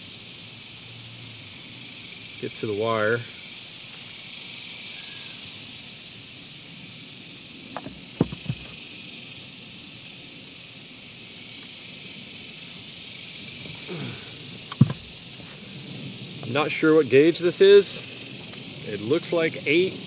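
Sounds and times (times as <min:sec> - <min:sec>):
insect chorus droning: 0:00.0 - 0:20.0.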